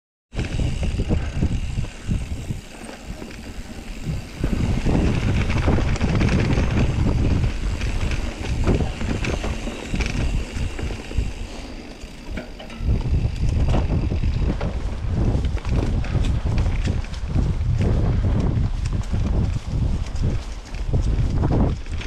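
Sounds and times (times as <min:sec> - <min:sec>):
bike knocking and rattling: 0:00.3 - 0:22.0
bike tyres on dirt and leaves: 0:00.3 - 0:22.0
wind rumbling on microphone: 0:00.3 - 0:22.0.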